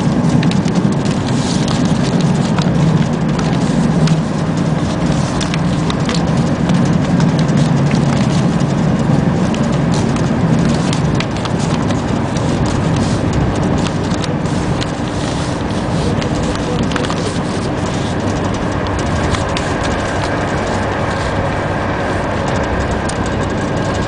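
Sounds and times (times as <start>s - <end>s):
clicks and rattles: 0.0s - 24.0s
train wheels rumbling on rails: 0.0s - 24.0s.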